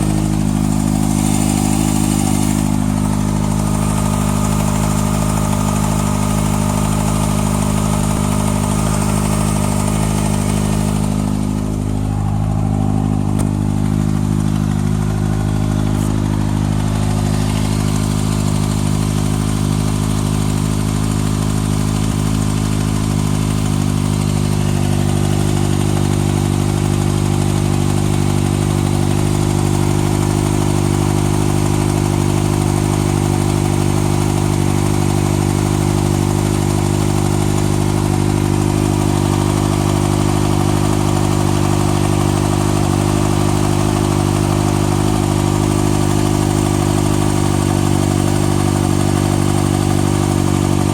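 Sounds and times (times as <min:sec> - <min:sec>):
engine ticking: 0:00.0 - 0:50.9
motorcycle engine idling: 0:00.0 - 0:50.9.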